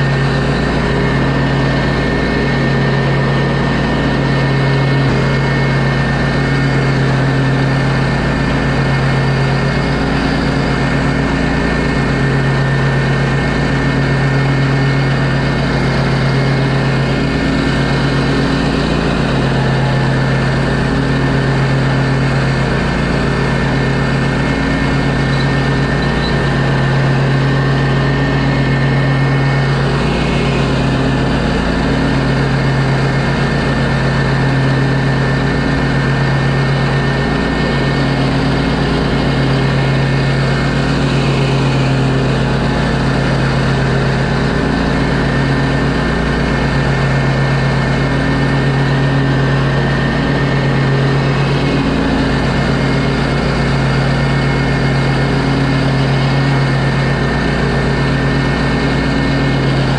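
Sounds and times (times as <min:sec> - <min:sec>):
mower engine running: 0:00.0 - 0:59.9.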